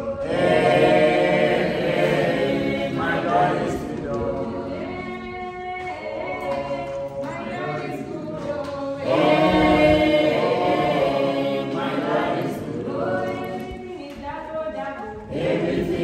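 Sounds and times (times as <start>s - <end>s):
choir singing long held notes: 0.0s - 13.9s, 15.2s - 16.0s.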